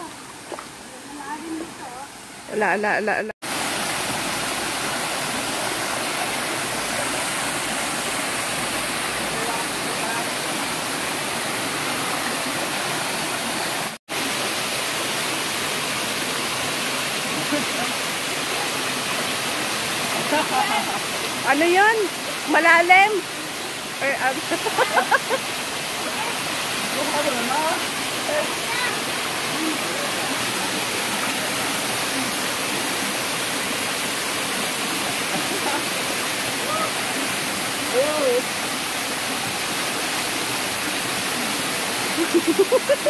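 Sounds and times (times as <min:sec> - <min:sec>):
waterfall rushing over boulders: 0:00.0 - 0:43.0.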